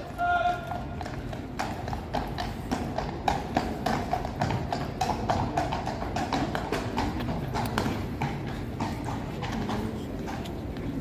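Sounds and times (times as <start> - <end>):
horse hooves clip-clopping on stone: 0.0 - 11.0.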